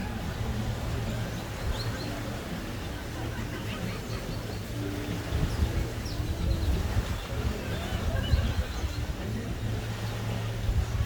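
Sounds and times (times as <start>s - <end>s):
wind and surf rumble: 0.0s - 11.0s.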